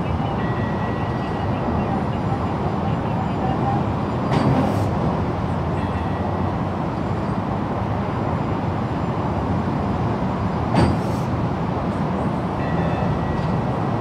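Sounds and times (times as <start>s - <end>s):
stationary train running noise: 0.0s - 14.0s.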